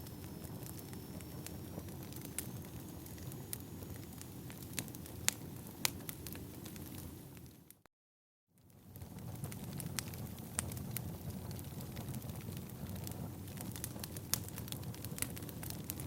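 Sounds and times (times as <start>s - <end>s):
sharp pops from fire: 0.0s - 7.8s, 8.9s - 16.0s
wood fire crackling: 0.0s - 7.8s, 8.6s - 16.0s.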